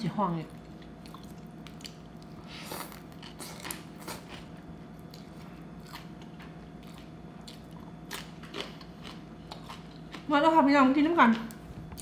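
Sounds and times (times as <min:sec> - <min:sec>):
faint hum: 0:00.0 - 0:12.0
person chewing noodles: 0:00.6 - 0:10.3.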